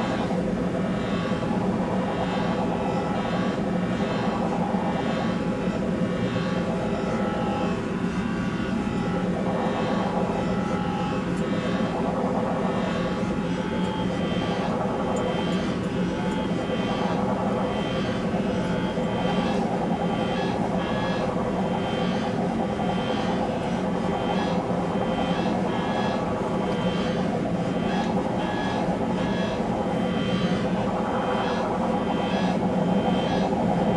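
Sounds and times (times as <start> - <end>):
electronic drone: 0.0 - 33.9.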